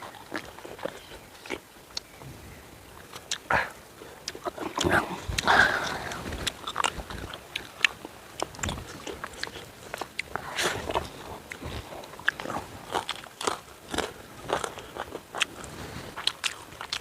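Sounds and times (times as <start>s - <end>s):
person chewing food: 0.0s - 2.1s, 3.1s - 17.0s.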